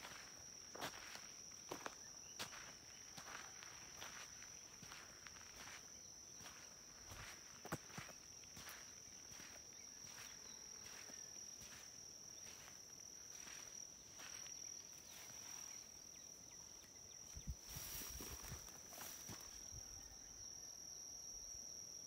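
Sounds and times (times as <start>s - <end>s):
footsteps through tall grass: 0.0s - 16.0s, 17.2s - 19.7s
high-pitched insect trill: 0.0s - 22.0s.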